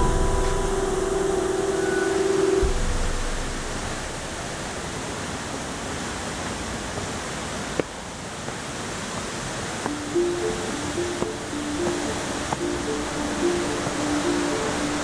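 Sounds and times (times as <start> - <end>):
waterfall rushing: 0.0 - 7.5, 9.4 - 15.0.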